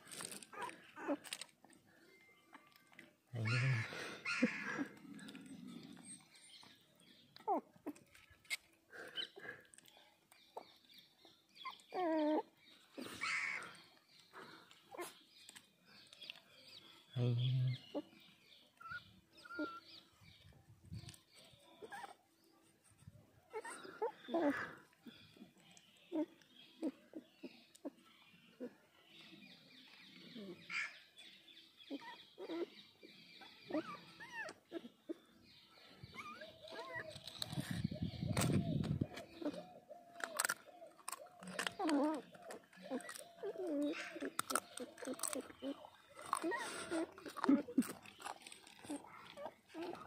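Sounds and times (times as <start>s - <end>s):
puppy whining: 0.1s - 15.3s, 17.8s - 29.6s, 30.2s - 31.0s, 31.8s - 50.0s.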